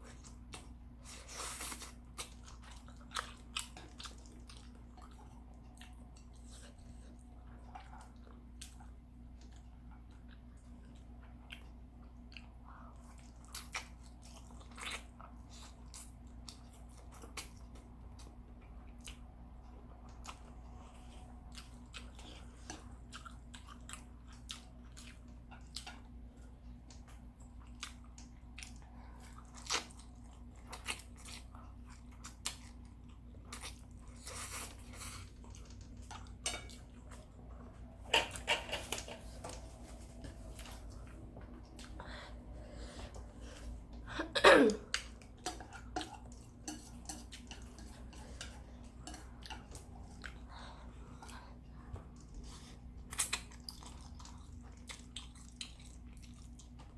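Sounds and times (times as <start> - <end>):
person chewing noodles: 0.0 - 44.2, 44.8 - 56.9.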